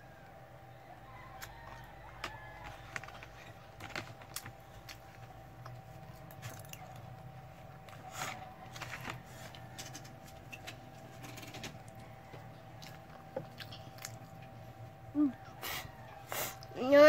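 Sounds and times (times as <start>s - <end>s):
steady faint hum: 0.0s - 17.0s
faint chewing: 1.1s - 16.8s.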